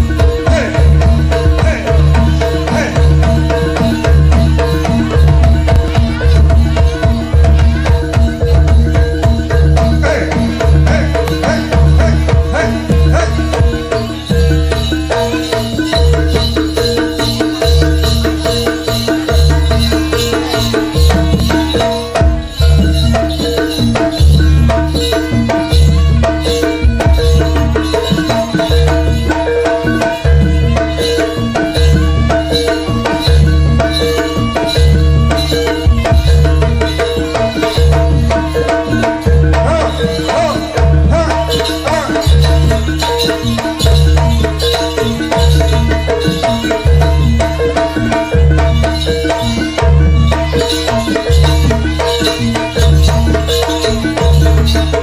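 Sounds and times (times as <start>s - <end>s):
deep low beat: 0.0s - 29.2s, 29.8s - 50.4s
fast stepped melody: 0.0s - 55.0s
gamelan ensemble playing: 0.0s - 55.0s
hand drum patterns: 0.0s - 55.0s.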